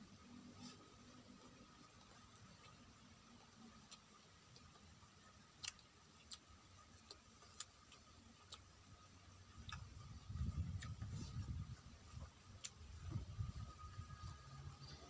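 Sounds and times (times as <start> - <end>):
chewing and lip smacks: 1.4 - 13.6.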